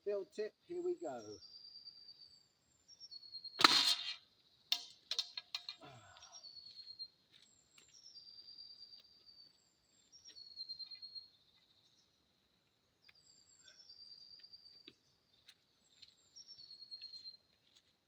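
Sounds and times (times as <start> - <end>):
birds chirping: 0.0 - 3.6, 4.3 - 17.5.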